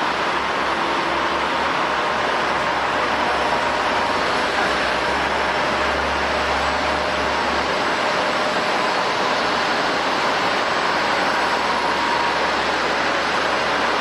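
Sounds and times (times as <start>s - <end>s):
faint engine whine: 0.0s - 14.0s
jet engines running: 0.0s - 14.0s.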